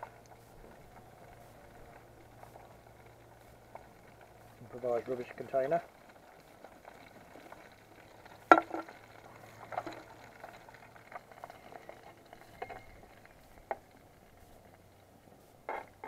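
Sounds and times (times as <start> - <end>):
burger sizzling: 0.0 - 16.0.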